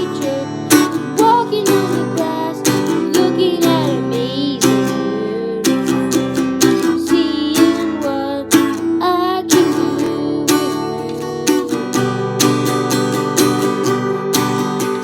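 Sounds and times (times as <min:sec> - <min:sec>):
acoustic guitar strumming chords: 0:00.0 - 0:15.0
person singing: 0:00.0 - 0:15.0.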